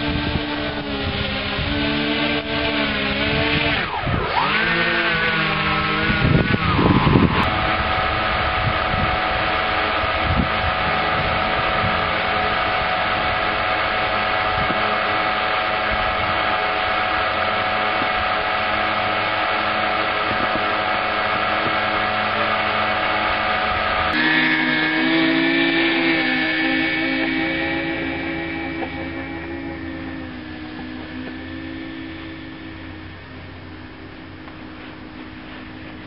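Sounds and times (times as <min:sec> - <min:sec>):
electric model plane motors whining: 0:00.0 - 0:36.0.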